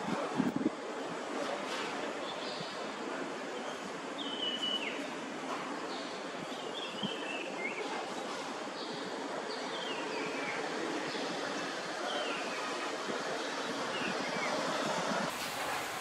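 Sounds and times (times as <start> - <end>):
wind-like hiss: 0.0 - 16.0.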